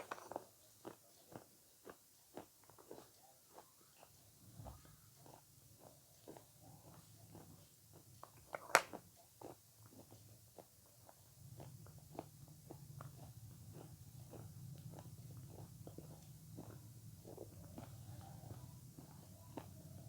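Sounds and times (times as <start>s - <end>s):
soft chewing with wet mouth clicks: 0.2s - 20.0s.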